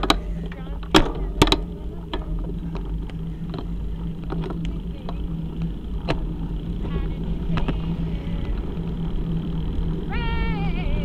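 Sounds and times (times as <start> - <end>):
bicycle clicks and rattles: 0.0 - 11.0
tyre and wind hum: 0.0 - 11.0.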